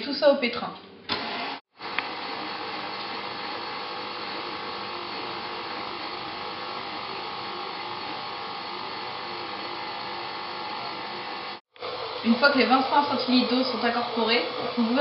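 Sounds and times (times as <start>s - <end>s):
stand mixer motor humming: 1.2s - 15.0s.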